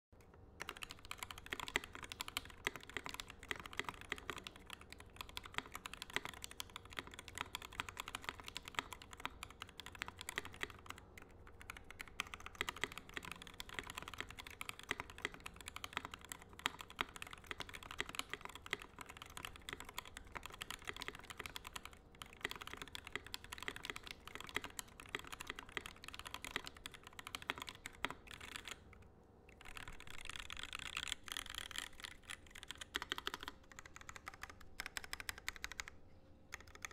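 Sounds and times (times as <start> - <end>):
fast mechanical keyboard typing: 0.6 - 28.9, 29.5 - 36.9.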